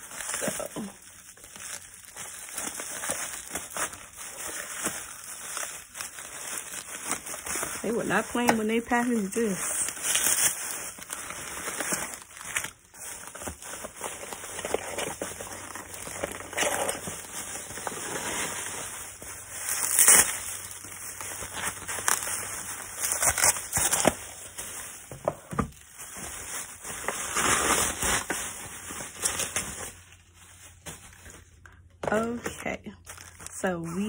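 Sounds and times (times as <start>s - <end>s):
plastic packaging crinkling: 0.0s - 34.0s.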